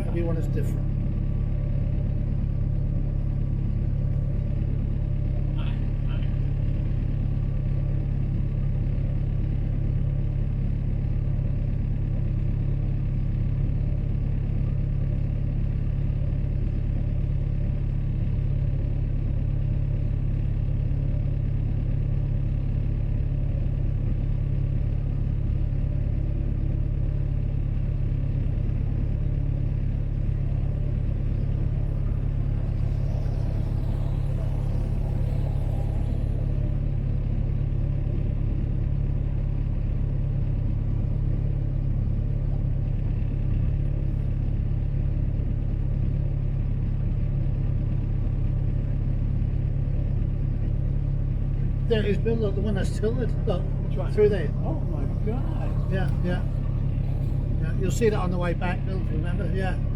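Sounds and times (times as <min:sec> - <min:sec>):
boat engine droning: 0:00.0 - 0:46.5, 0:50.8 - 0:59.9.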